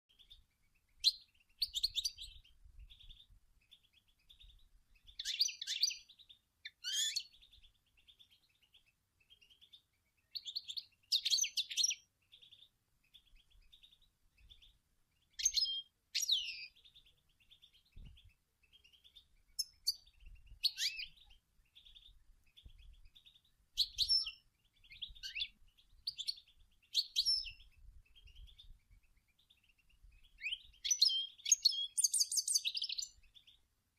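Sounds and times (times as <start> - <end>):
goldfinch singing: 0.1 - 33.7.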